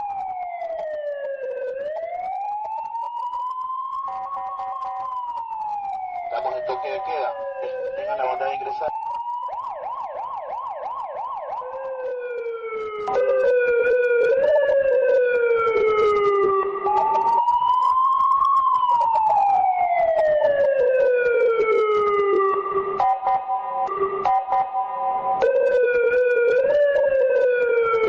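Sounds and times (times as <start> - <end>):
police siren yelp and wail: 0.0 - 28.0.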